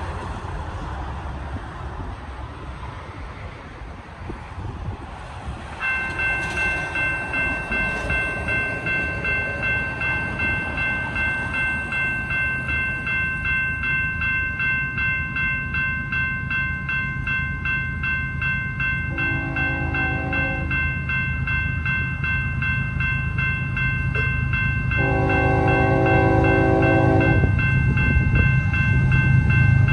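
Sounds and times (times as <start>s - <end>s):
railroad crossing bell ringing: 5.7s - 29.9s.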